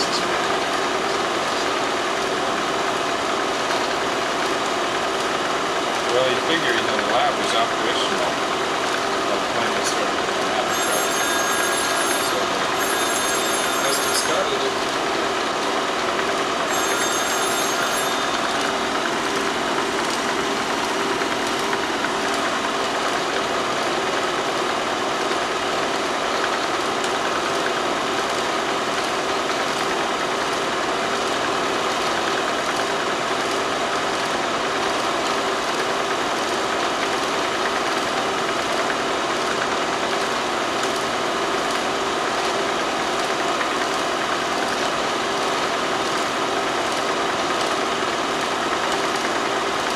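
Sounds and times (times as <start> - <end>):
mechanical hum and hiss: 0.0 - 49.9.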